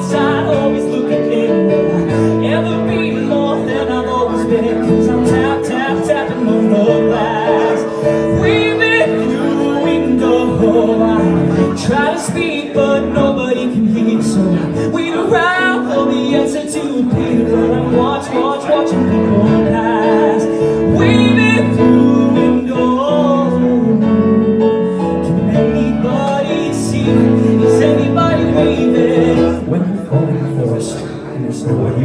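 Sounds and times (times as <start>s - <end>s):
grand piano chords: 0.0s - 32.0s
man singing: 0.0s - 32.0s.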